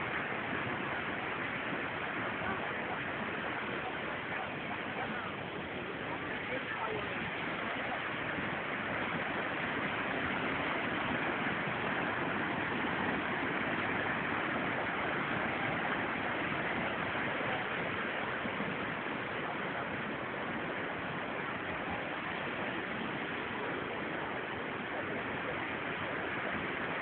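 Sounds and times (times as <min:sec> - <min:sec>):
water rushing over cascades: 0:00.0 - 0:27.0.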